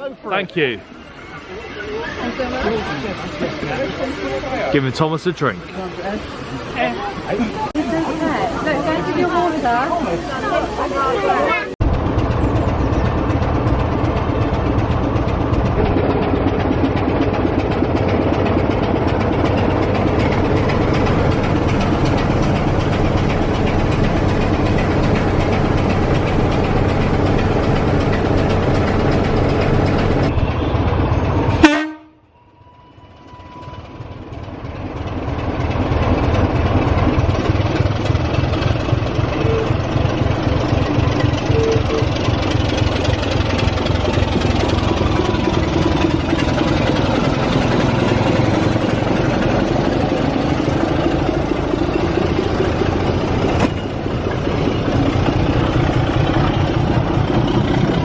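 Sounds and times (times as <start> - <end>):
train rumble with wheel clatter: 0.0 - 58.0.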